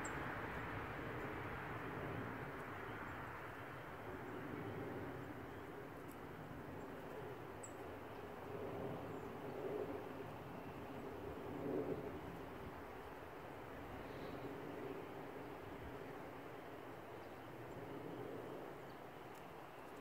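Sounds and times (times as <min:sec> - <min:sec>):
outdoor rumble and hiss: 0:00.0 - 0:20.0.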